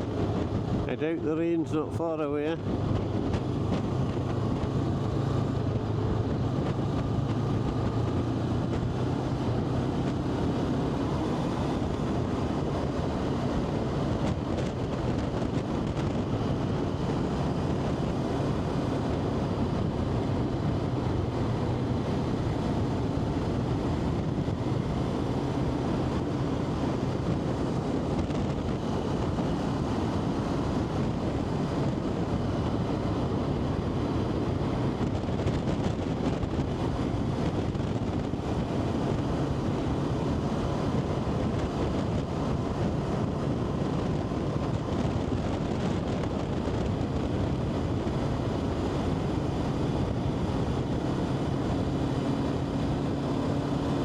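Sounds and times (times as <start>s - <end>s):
vehicle engine droning: 0.0s - 54.0s
wind rushing over microphone: 0.0s - 54.0s.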